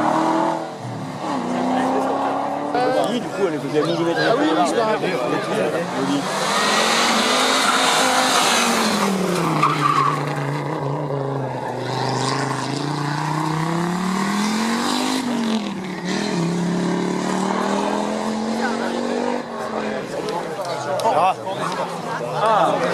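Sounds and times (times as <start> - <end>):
rally car engine revving: 0.0 - 3.7, 5.5 - 20.8.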